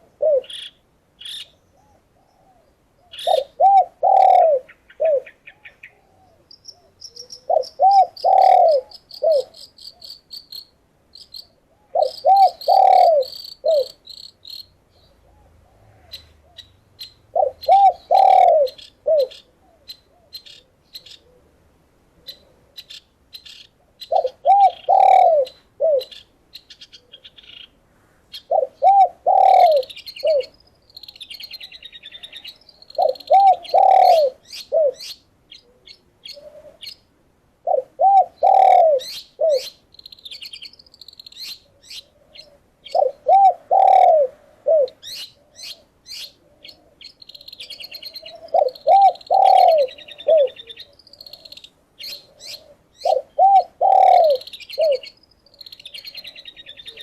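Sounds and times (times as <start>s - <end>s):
dove cooing: 0.0s - 0.7s, 1.7s - 10.0s, 11.4s - 14.0s, 15.1s - 16.7s, 17.3s - 21.6s, 24.0s - 26.2s, 28.4s - 37.0s, 37.6s - 39.8s, 41.6s - 57.0s
songbirds chirping and whistling: 0.2s - 21.5s, 22.2s - 37.1s, 37.7s - 57.0s.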